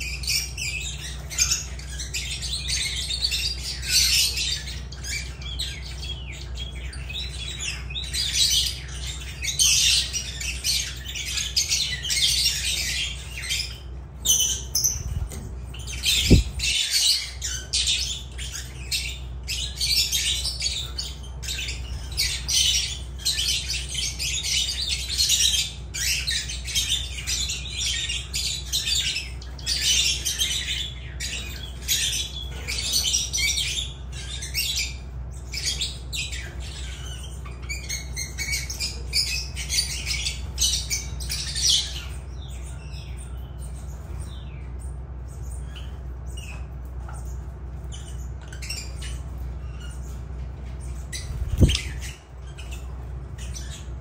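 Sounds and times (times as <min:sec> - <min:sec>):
lovebirds chattering: 0:00.0 - 0:54.0
steady low hum: 0:00.0 - 0:54.0.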